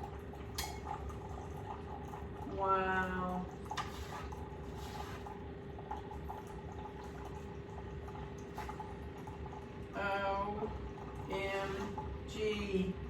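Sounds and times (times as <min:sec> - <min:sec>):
kitchen appliance hum: 0:00.0 - 0:13.0.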